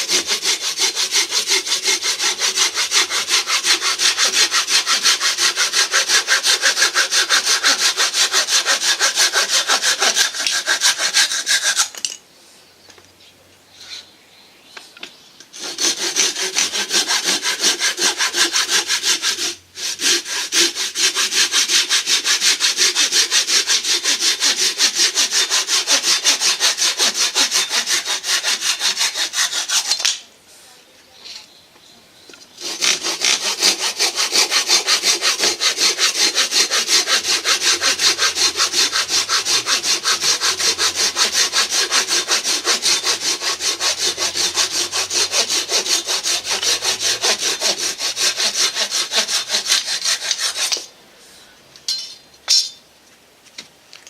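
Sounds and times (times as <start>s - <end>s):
hand saw cutting wood: 0.0s - 12.1s, 15.5s - 30.2s, 32.5s - 50.9s.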